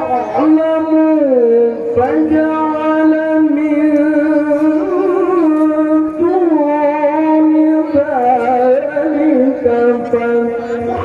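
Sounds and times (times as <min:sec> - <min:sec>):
man chanting into microphone: 0:00.0 - 0:11.0.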